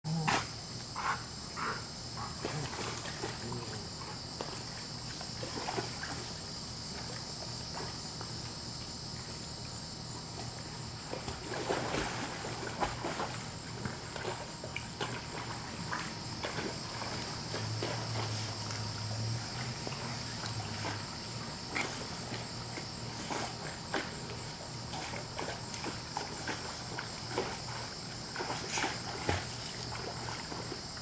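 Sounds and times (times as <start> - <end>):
insects chirring: 0.1 - 31.0.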